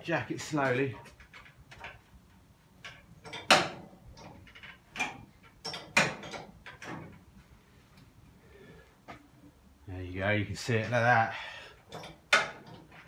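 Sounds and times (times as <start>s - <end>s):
metal creaking: 0.0s - 13.0s.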